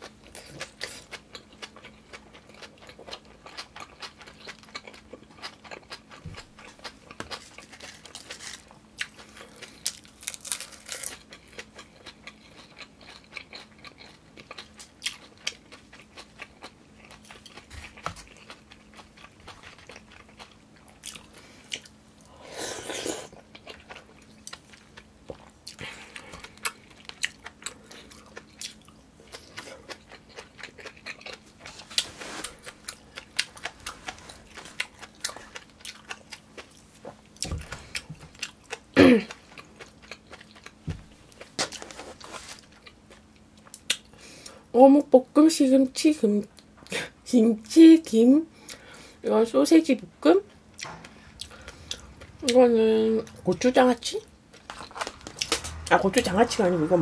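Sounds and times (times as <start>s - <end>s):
person chewing food: 0.0s - 44.7s, 50.5s - 52.6s, 53.2s - 55.9s
faint steady hum: 0.0s - 57.0s.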